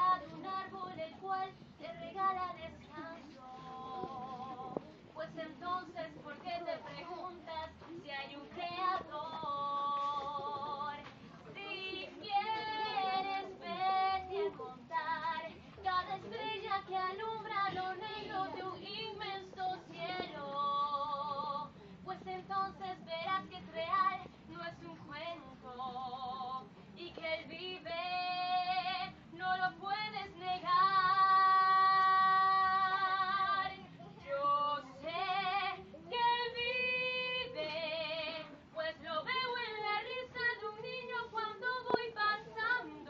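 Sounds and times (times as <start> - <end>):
women and children singing a hymn: 0.0 - 43.0.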